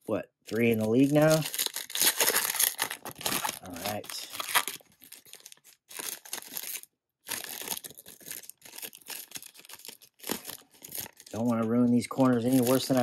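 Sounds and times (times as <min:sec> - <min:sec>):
foil pack tearing and crinkling: 0:00.5 - 0:11.5, 0:12.2 - 0:13.0.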